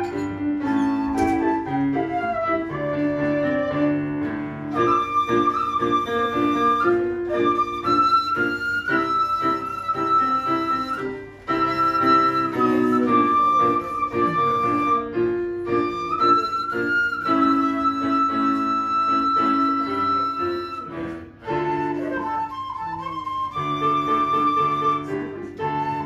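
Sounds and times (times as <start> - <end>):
flute melody: 0.0 - 26.0
piano chords: 0.0 - 26.0.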